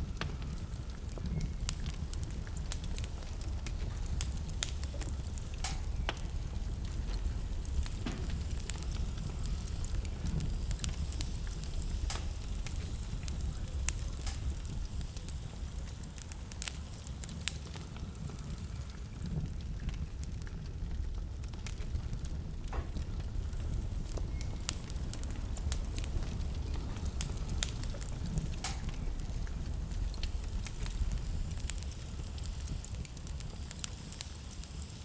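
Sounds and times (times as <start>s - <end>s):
fire crackles and pops: 0.0s - 35.0s
fire rumbling: 0.0s - 35.0s.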